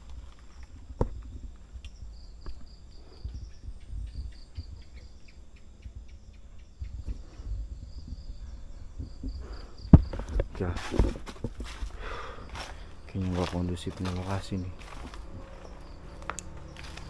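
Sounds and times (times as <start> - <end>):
soft low thumps: 0.0 - 16.0
crickets chirping: 0.0 - 17.0.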